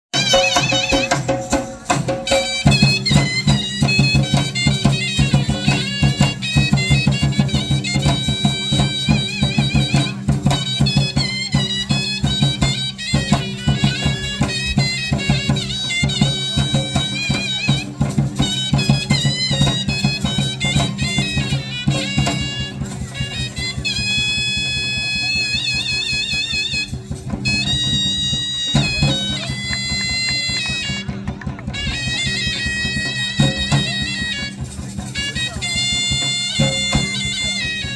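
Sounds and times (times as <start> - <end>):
double-reed wind instrument melody: 0.1 - 37.9
fast drumming: 0.1 - 37.9.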